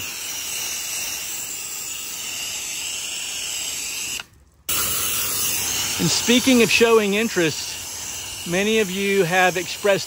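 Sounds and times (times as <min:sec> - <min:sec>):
pressure washer spray hissing: 0:00.0 - 0:10.0.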